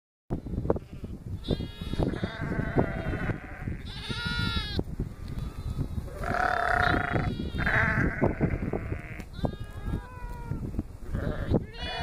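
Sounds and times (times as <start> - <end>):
sheep and lambs bleating: 0.4 - 12.0.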